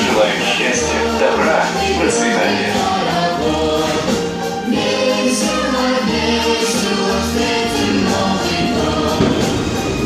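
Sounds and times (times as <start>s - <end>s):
choir singing long held notes: 0.0s - 10.0s.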